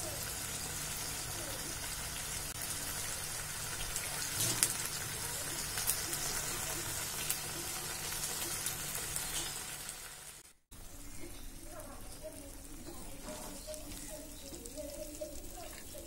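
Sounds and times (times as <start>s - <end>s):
curry sizzling in a pan: 0.0s - 16.0s
oil crackling: 0.0s - 16.0s.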